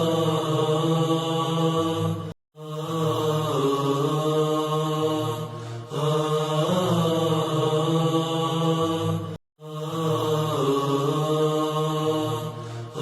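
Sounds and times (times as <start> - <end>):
chanted vocal melody: 0.0 - 13.0.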